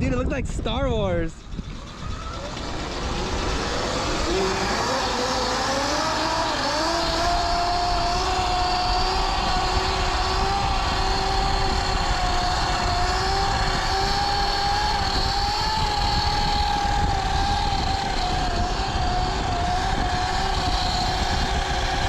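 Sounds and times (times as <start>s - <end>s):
wind buffeting microphone: 0.0s - 22.0s
electric motor whine: 1.4s - 22.0s.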